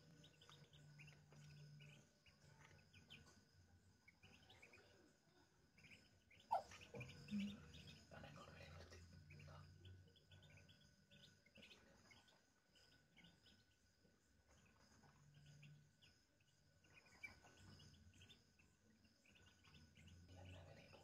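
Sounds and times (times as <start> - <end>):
ducklings peeping: 0.0 - 13.8, 14.4 - 21.0.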